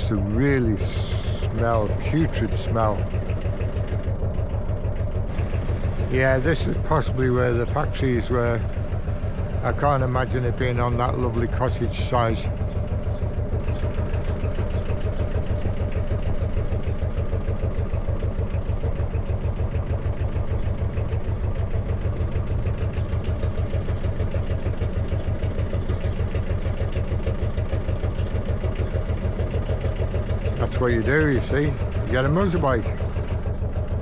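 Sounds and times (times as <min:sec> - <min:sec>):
diesel boat engine running: 0:00.0 - 0:34.0.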